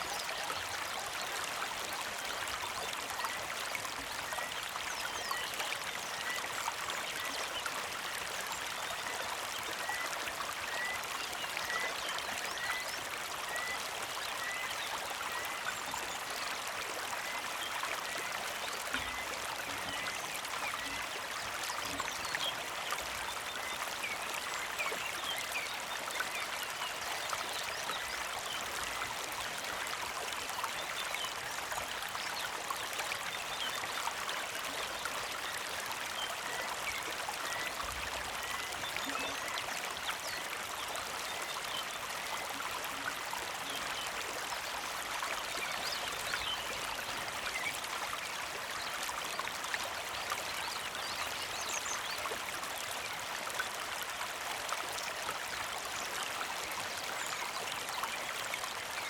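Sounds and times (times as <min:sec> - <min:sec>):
creek flowing and trickling: 0:00.0 - 0:59.0.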